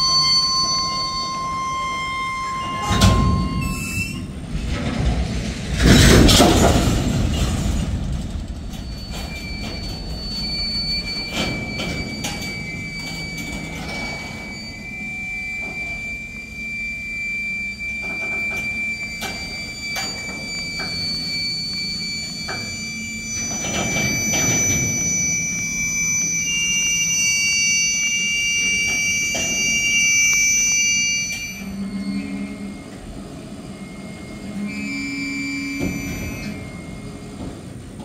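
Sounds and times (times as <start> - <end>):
train wheel squeal: 0.0 - 5.0, 5.7 - 38.0
low train rumble: 0.0 - 38.0.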